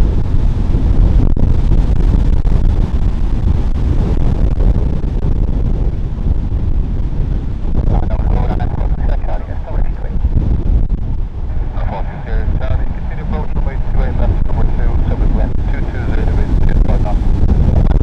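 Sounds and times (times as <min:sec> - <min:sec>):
storm wind buffeting microphone: 0:00.0 - 0:18.0.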